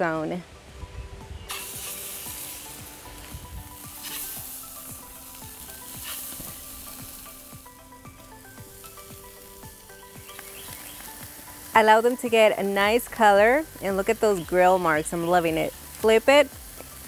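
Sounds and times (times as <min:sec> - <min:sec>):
chicken sizzling on grill: 0:01.4 - 0:17.0.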